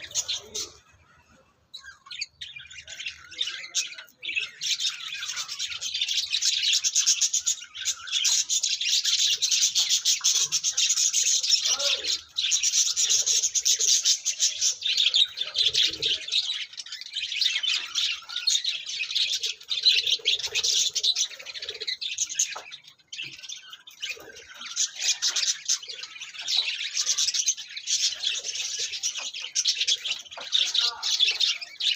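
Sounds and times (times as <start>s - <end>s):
lovebirds chattering and chirping: 0.0s - 31.9s.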